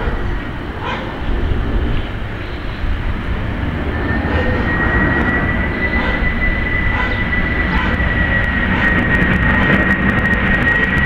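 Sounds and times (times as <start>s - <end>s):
high engine whine: 0.0s - 11.0s
jet engines rumbling overhead: 0.0s - 11.0s.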